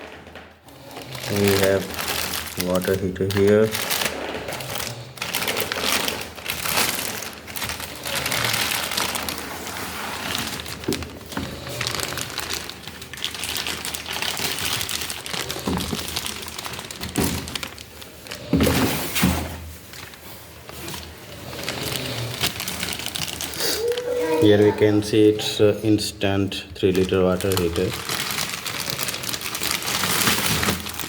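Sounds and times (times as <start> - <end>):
packaging crinkling and rustling: 0.0 - 31.0.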